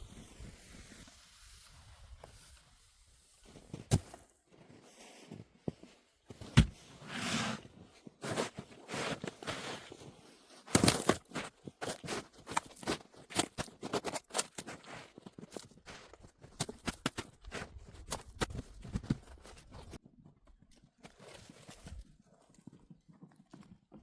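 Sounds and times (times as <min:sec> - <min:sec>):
snow crunching and scraping: 0:00.0 - 0:20.0.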